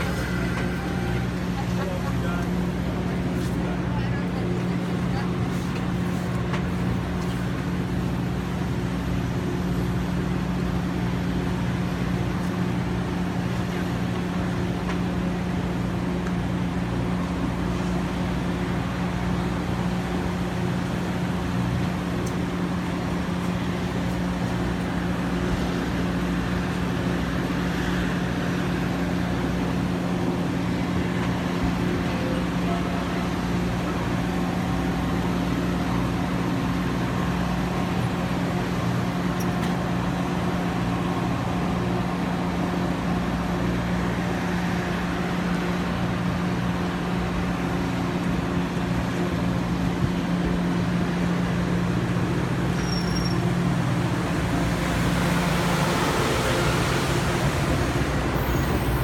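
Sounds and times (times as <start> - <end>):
commuter train droning: 0.0 - 59.0.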